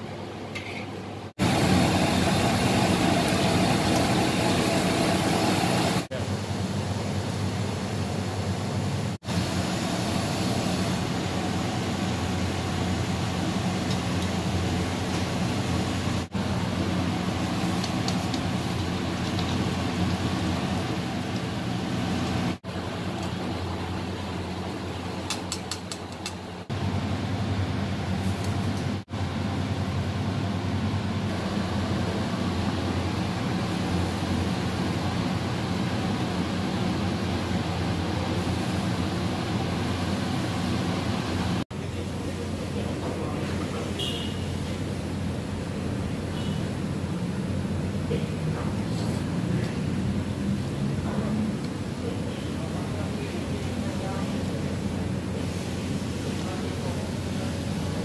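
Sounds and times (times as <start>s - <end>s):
commercial kitchen roar: 0.0s - 58.0s.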